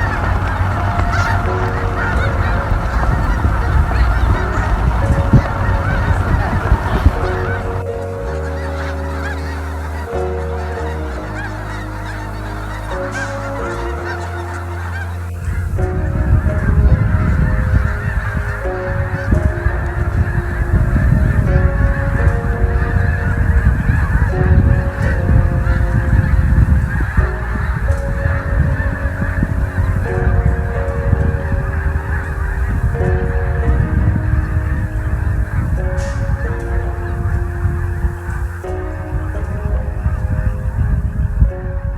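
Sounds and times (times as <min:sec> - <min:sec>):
flock of geese honking: 0:00.0 - 0:41.9.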